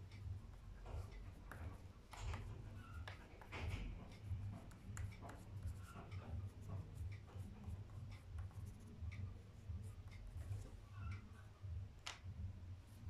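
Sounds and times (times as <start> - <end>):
pastel scratching on paper: 0.0 - 11.2
low steady hum: 0.0 - 13.0.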